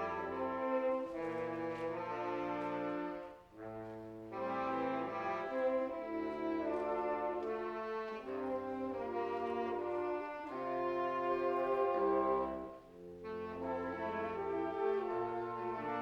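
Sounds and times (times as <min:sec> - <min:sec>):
brass ensemble playing chords: 0:00.0 - 0:16.0.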